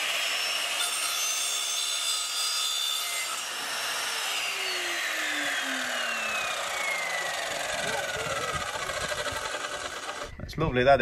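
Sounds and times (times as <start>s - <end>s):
saw blade cutting plastic pipe: 0.0s - 10.3s
chop saw motor whine: 0.0s - 10.5s.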